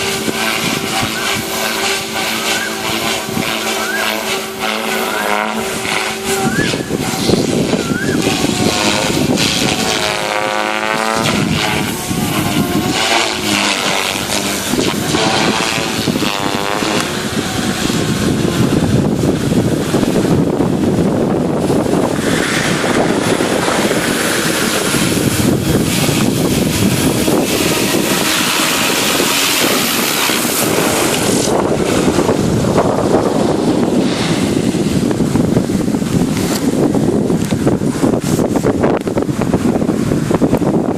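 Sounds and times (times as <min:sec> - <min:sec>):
model helicopter rotor whine: 0:00.0 - 0:40.9
steady rushing noise: 0:00.0 - 0:40.9.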